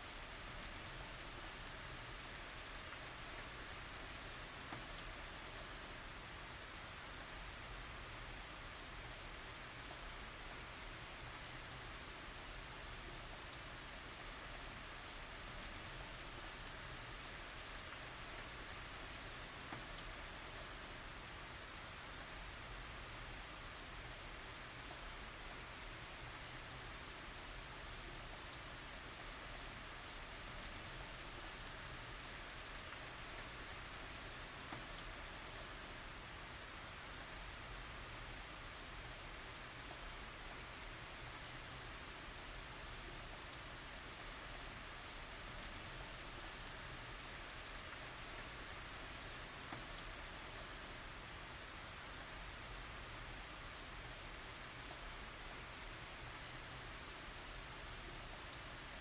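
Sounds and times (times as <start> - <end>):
rain pattering on surfaces: 0.0 - 59.0.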